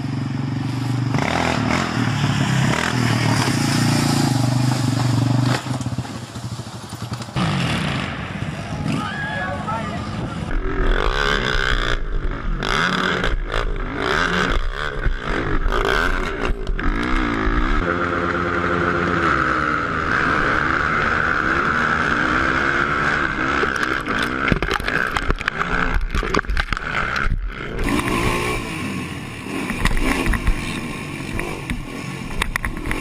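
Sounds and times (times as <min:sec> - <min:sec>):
quad engine revving: 0:00.0 - 0:06.2, 0:07.1 - 0:33.0.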